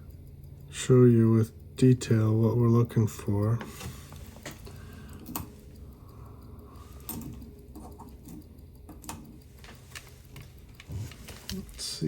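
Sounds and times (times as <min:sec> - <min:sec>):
light clicks and taps: 0:00.0 - 0:12.0
steady low hum: 0:00.0 - 0:12.0.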